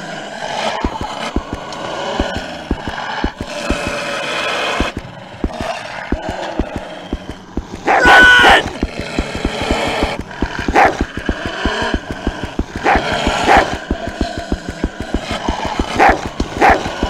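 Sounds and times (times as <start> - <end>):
dogs barking and yelping: 0.0 - 17.0
paws thumping: 0.7 - 17.0.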